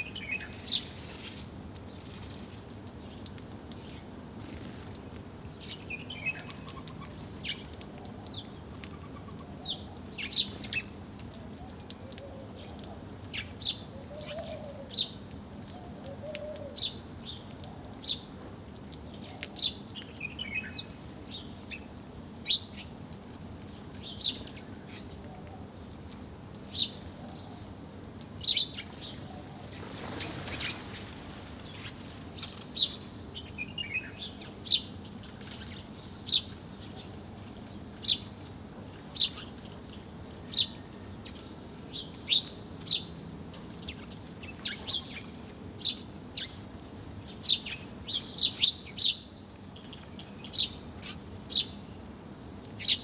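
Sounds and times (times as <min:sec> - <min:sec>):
small birds chirping: 0:00.0 - 0:15.3, 0:16.2 - 0:23.0, 0:23.6 - 0:27.7, 0:28.4 - 0:53.0.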